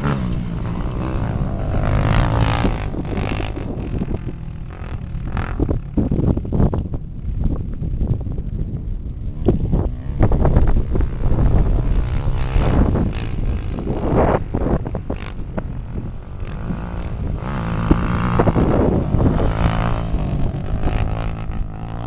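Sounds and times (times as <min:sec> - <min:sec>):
off-road engines revving: 0:00.0 - 0:06.0, 0:09.4 - 0:22.0
wind buffeting microphone: 0:00.0 - 0:22.0.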